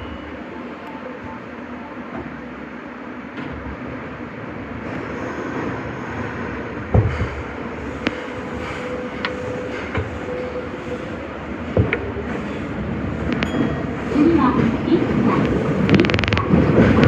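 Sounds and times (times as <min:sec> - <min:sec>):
train wheels rumbling: 0:03.2 - 0:17.0.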